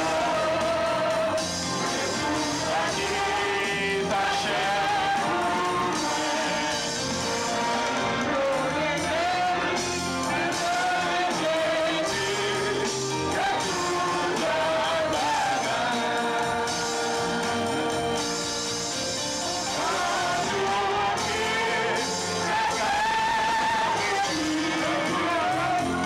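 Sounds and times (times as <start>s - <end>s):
congregation singing gospel song: 0.0s - 26.0s.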